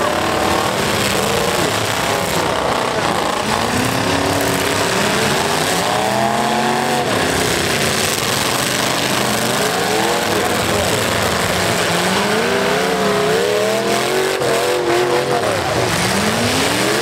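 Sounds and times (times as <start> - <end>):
tires spinning on dirt: 0.0 - 17.0
truck engines revving: 0.0 - 17.0.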